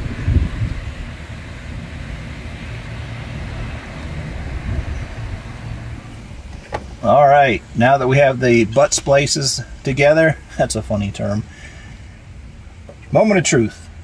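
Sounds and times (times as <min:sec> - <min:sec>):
background rumble and hiss: 0:00.0 - 0:14.0.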